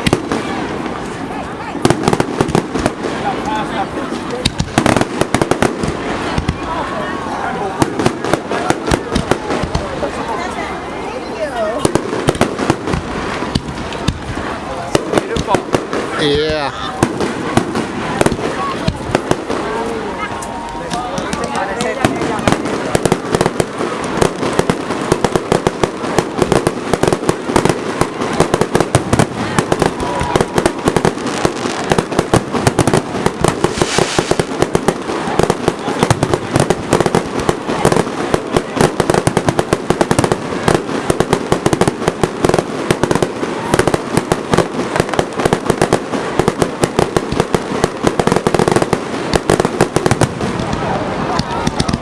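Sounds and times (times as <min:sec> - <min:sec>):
fireworks bangs and crackles: 0:00.0 - 0:52.0.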